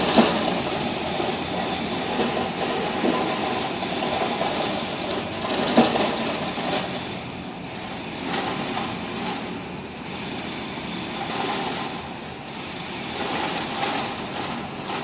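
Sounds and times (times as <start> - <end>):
pipe grooving machine whining: 0.0 - 15.0.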